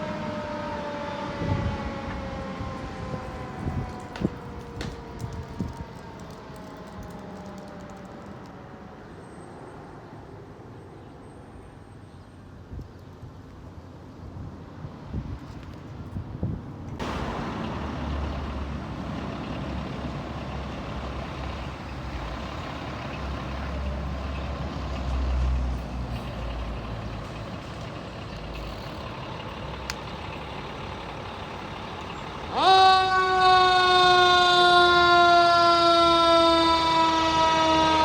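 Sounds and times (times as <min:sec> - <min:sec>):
fire truck engine rumbling: 0:00.0 - 0:11.8, 0:12.4 - 0:38.0.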